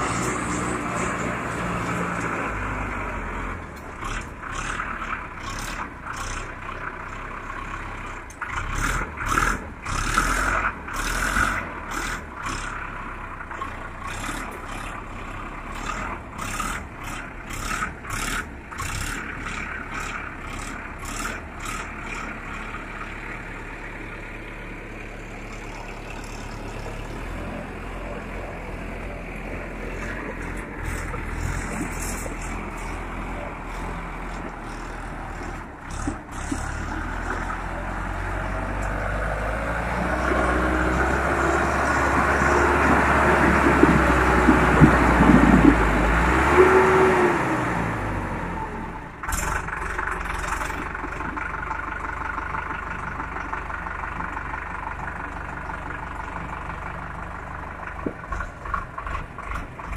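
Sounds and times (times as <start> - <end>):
vehicle rattling over stones: 0.0 - 46.8, 49.0 - 59.9
vehicle engine running: 0.0 - 59.9.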